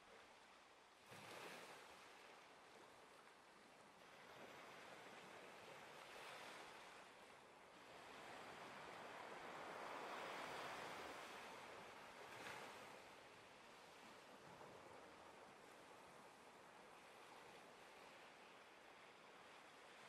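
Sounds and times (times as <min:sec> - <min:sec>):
small waves washing onto beach: 0:00.0 - 0:20.0.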